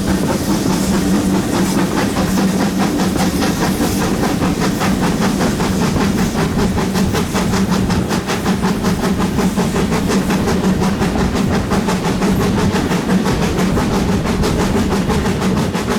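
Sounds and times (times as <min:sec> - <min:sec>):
steam locomotive exhaust beats: 0:00.0 - 0:15.9.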